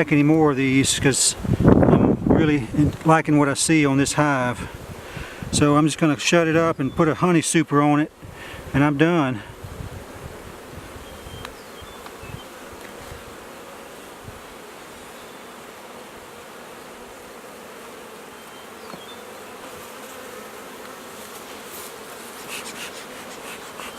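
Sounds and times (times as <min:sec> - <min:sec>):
bees buzzing: 0:00.0 - 0:23.9.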